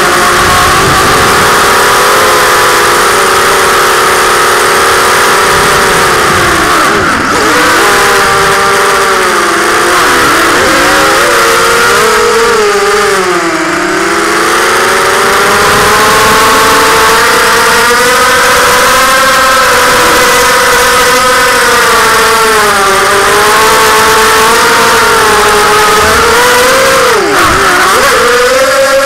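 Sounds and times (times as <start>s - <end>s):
drone motors and propellers whining: 0.0s - 29.0s.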